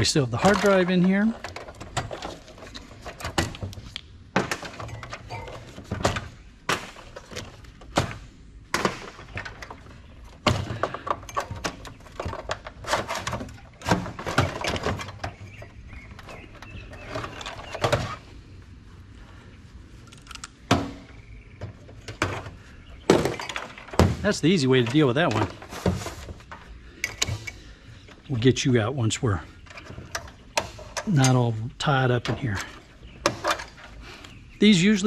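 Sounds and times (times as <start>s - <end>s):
metal parts knocking and rattling: 0.0s - 18.2s, 20.0s - 28.3s, 32.1s - 34.0s.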